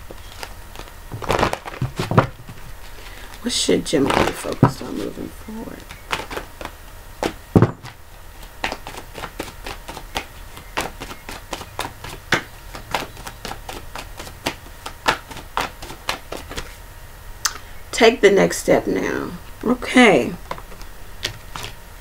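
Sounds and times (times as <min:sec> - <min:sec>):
cards being shuffled: 0:00.0 - 0:16.8, 0:20.4 - 0:21.8.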